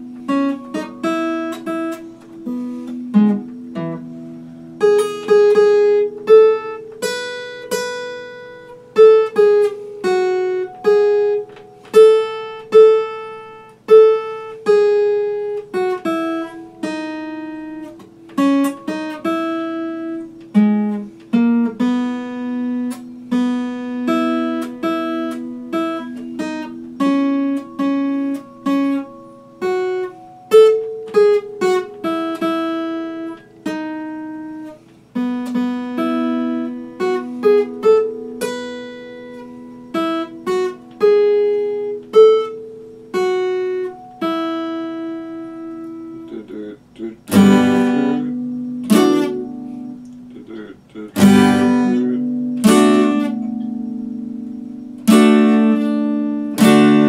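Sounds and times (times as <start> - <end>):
acoustic guitar played solo: 0.0 - 57.0.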